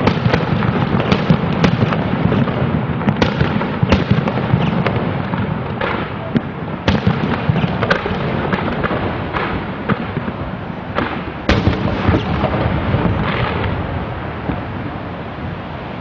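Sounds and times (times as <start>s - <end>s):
fireworks bangs: 0.0s - 15.6s
fireworks crackle and rumble: 0.0s - 16.0s.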